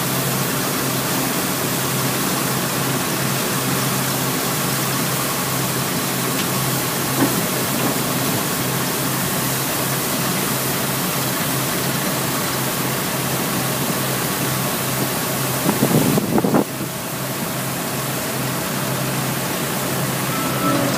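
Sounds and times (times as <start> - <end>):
street sweeper hum: 0.0 - 20.9.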